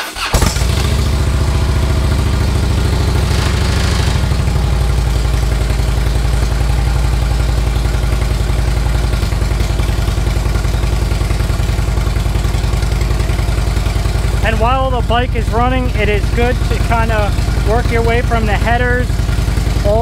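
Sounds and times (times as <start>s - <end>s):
motorcycle engine starting and idling: 0.0s - 20.0s.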